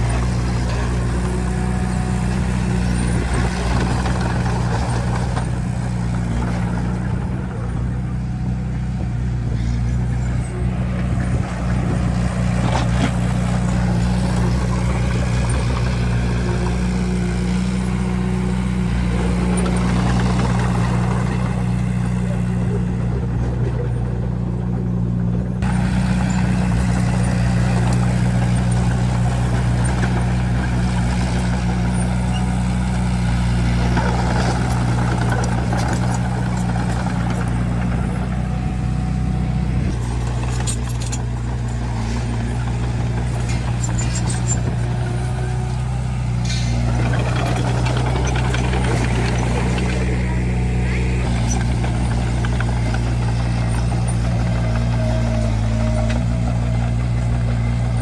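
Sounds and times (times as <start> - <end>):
large diesel engine running: 0.0 - 58.0.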